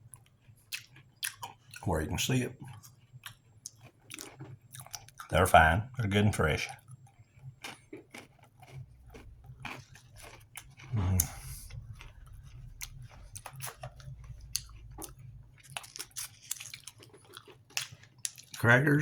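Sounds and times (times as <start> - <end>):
person chewing crunchy crackers: 0.0 - 19.0.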